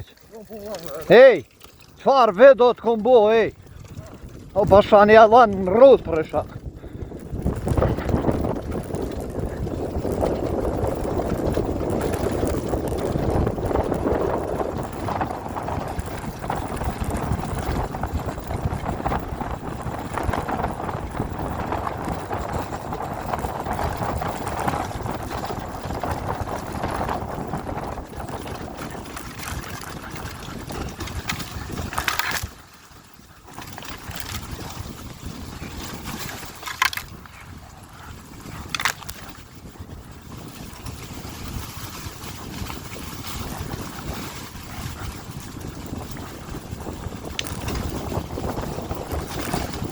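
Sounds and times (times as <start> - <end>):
dirt bike engine: 0.0 - 49.9
wind noise on microphone: 0.0 - 49.9.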